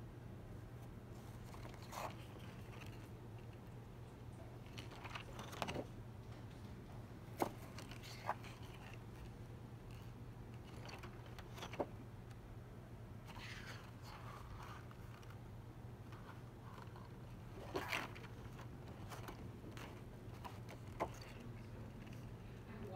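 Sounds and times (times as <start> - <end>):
steady low hum: 0.0 - 22.9
paper pages rustling: 0.8 - 3.8, 4.5 - 12.0, 13.2 - 22.6.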